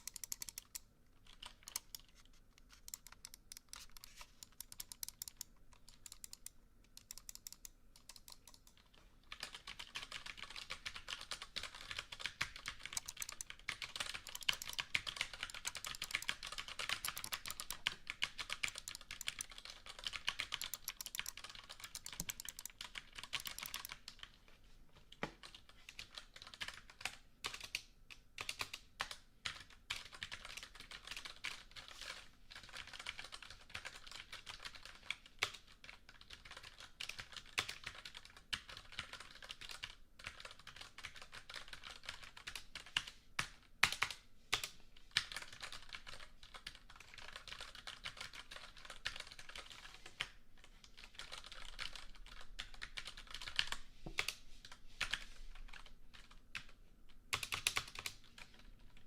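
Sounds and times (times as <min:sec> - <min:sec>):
typing on computer keyboard: 0:00.0 - 0:24.4, 0:25.2 - 0:54.4, 0:55.0 - 0:59.0.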